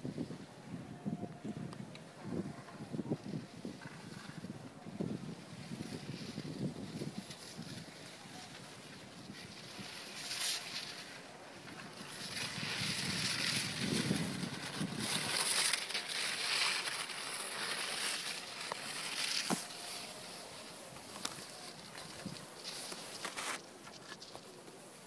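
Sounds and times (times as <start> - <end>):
skis scraping over packed snow: 2.0 - 25.0.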